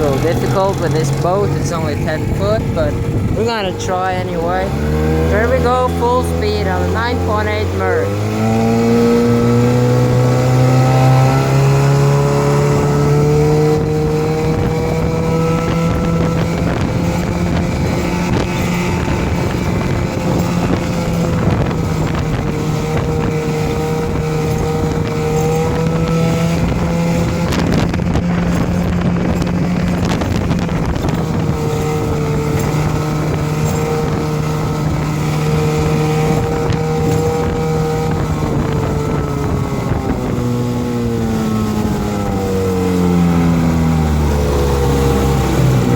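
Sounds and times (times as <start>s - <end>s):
outboard motor at full throttle: 0.0s - 45.9s.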